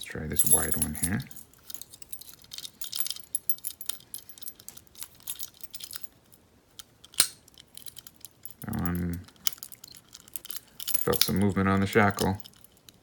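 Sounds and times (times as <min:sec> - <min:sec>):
metal picks clicking in padlock: 0:00.4 - 0:06.2, 0:06.8 - 0:13.0.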